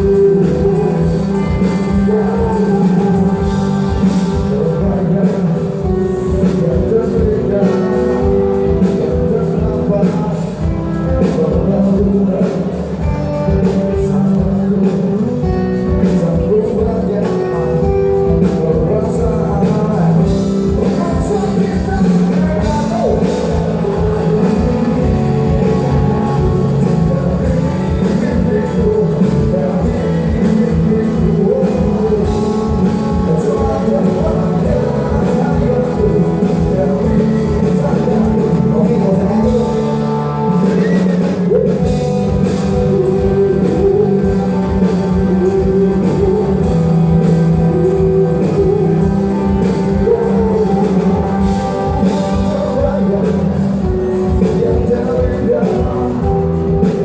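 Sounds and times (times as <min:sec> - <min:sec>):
drum kit beat: 0:00.0 - 0:57.0
guitar: 0:00.0 - 0:57.0
person singing: 0:00.0 - 0:57.0.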